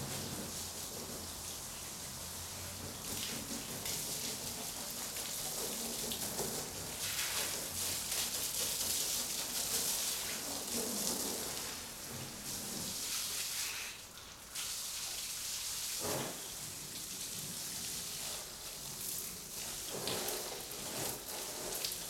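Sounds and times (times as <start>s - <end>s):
hose water spraying on car: 0.0s - 22.0s.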